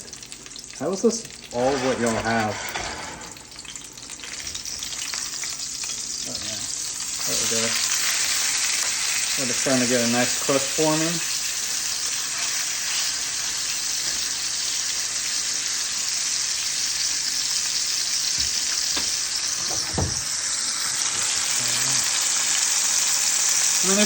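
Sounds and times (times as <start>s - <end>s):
steaks sizzling in a pan: 0.0s - 24.0s.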